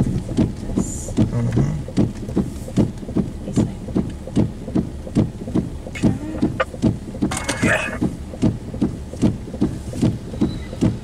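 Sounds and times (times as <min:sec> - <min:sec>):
tyres on wet road: 0:00.0 - 0:11.0
sharp taps: 0:00.2 - 0:11.0.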